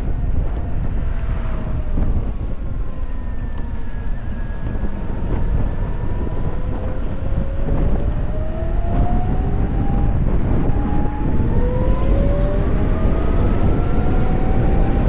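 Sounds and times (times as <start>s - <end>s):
wind buffeting the microphone: 0.0s - 15.0s
electric motor whine: 0.4s - 15.0s.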